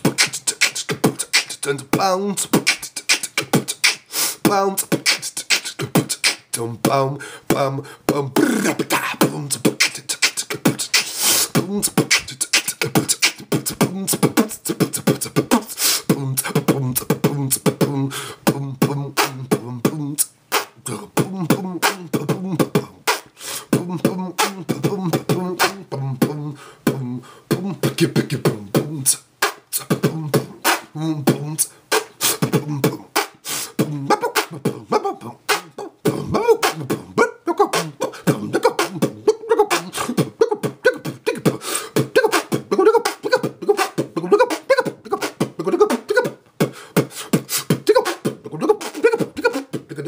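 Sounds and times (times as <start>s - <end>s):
man beatboxing: 0.0s - 50.0s.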